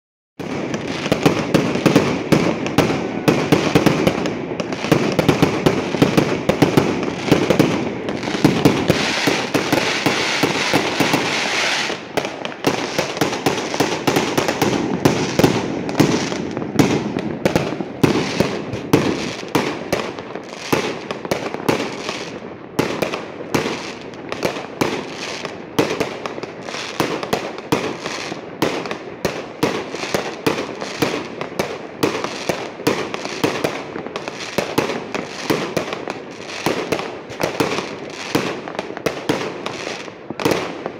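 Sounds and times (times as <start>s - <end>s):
fireworks bangs and crackling: 0.4s - 40.9s.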